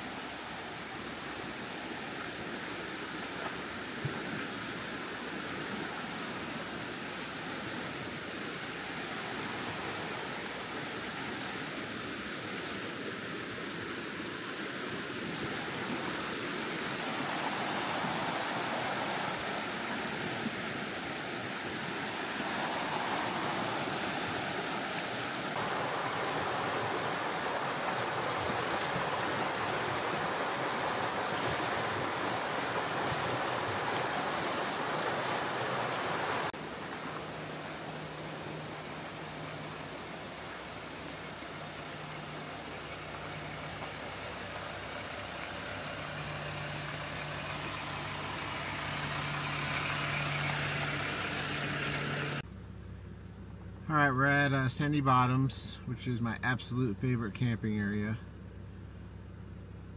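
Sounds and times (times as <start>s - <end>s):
creek water rushing over rocks: 0.0s - 52.5s.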